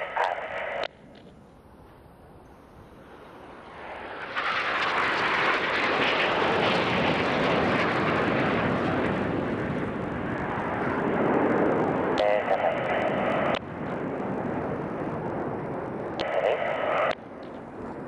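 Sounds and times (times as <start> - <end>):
jets flying past roaring: 0.0 - 18.0.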